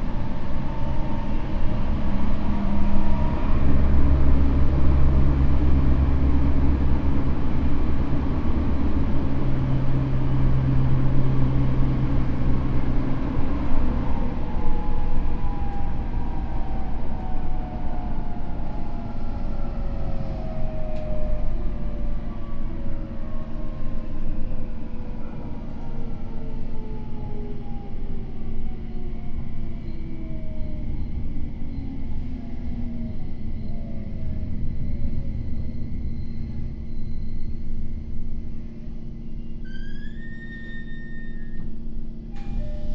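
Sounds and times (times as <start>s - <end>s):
train wheel and rail rumble: 0.0s - 42.9s.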